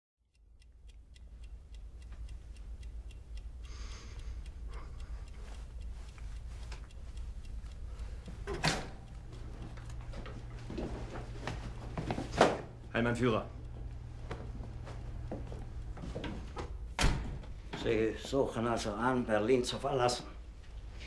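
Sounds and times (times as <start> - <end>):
clock ticking: 0.3 - 21.0.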